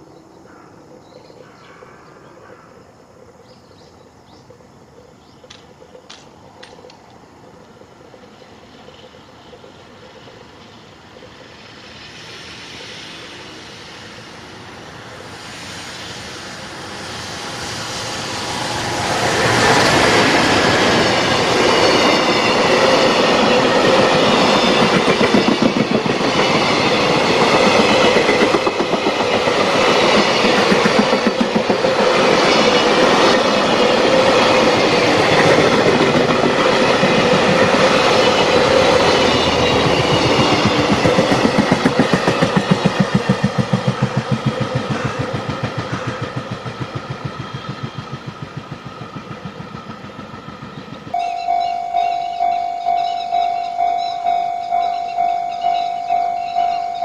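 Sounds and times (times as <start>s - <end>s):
freight train wheels clickety-clack: 4.4s - 57.0s.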